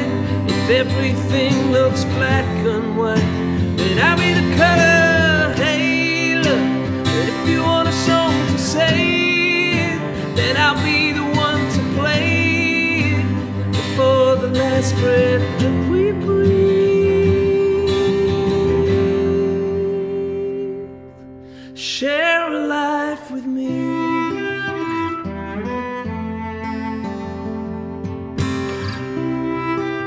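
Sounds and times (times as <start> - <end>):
man singing: 0.0 - 24.7
acoustic guitar: 0.0 - 30.0.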